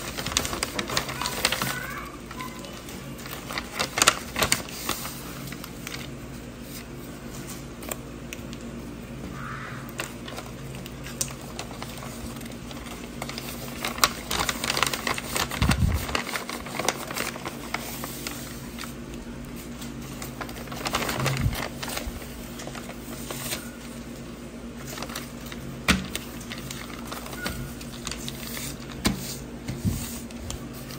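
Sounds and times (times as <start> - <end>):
paper rustling and crinkling: 0.0 - 8.0, 10.0 - 30.9.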